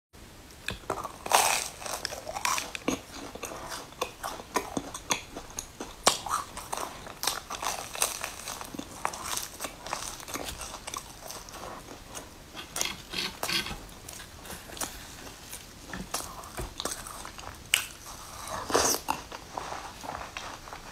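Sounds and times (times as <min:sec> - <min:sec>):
crunching fried bun crust: 0:00.6 - 0:20.9
person chewing: 0:00.6 - 0:20.9.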